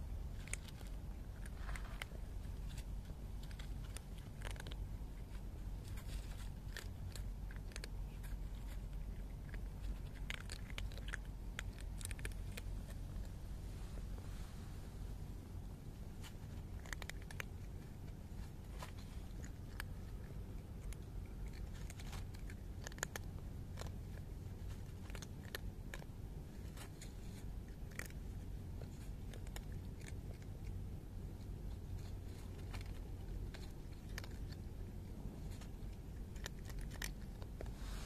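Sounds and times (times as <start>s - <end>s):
cat crunching dry kibble: 0.0s - 14.2s, 15.2s - 38.0s
steady low rumble: 0.0s - 38.0s.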